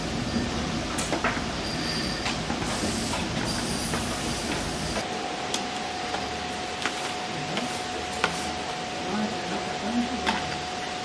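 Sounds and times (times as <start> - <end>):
factory machinery noise: 0.0 - 11.0.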